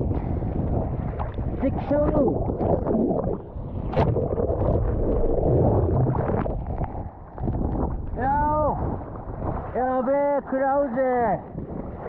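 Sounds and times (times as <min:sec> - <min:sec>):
sea water splashing: 0:00.0 - 0:12.0
wind buffeting microphone: 0:00.0 - 0:12.0.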